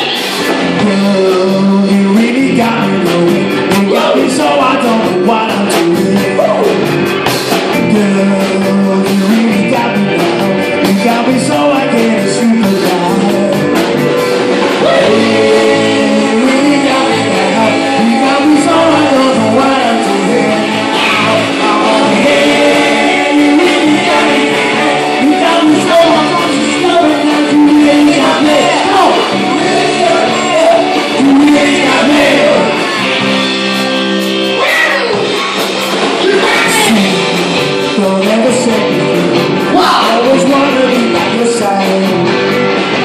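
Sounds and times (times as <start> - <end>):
vocals through microphone: 0.0 - 7.0, 7.6 - 33.2, 36.2 - 42.5
live rock band playing: 0.0 - 43.0.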